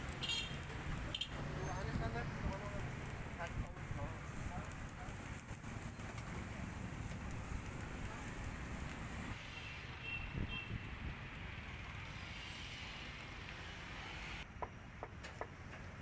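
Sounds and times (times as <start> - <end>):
street background rumble: 0.0 - 16.0.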